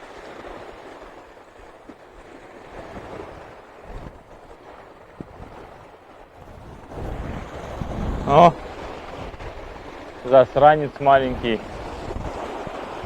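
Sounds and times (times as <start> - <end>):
river waves washing onto shore: 0.0 - 13.0
wind buffeting microphone: 0.0 - 13.0.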